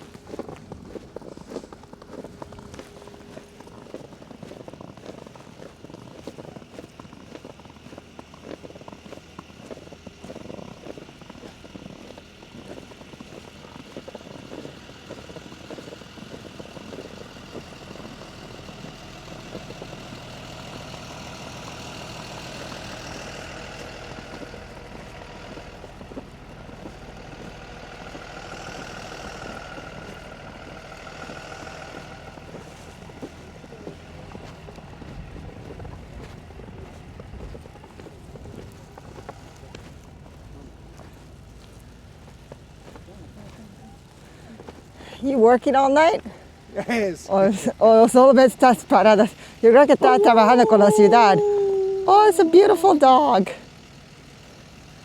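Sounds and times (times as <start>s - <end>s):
footsteps crunching in snow: 0.0s - 45.0s, 50.0s - 53.4s
vehicle engine running: 0.0s - 55.0s.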